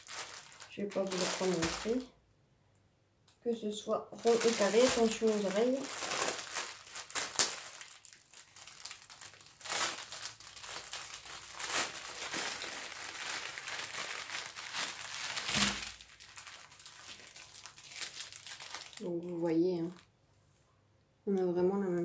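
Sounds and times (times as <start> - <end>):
plastic packaging crinkling: 0.0 - 2.1, 4.2 - 20.1.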